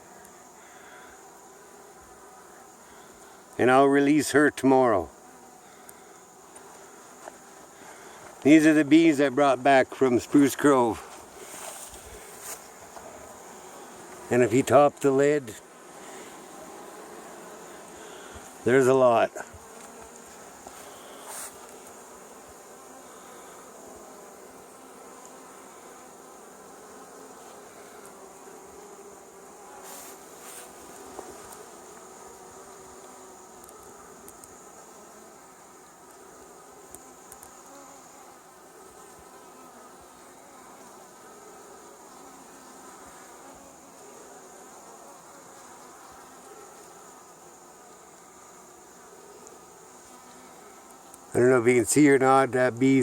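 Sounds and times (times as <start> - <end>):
bees buzzing: 0.0 - 53.0.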